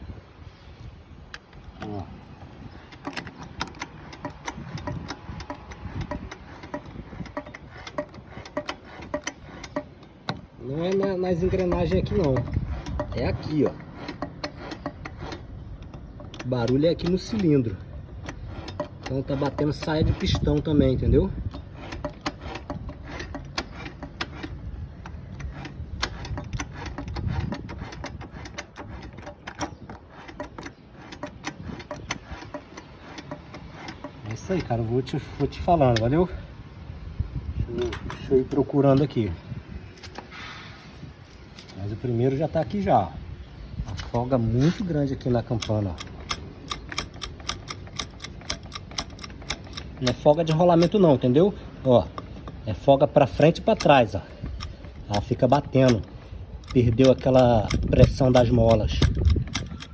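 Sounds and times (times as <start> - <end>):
metallic clicking of engine turned: 1.3 - 36.3, 43.9 - 59.9.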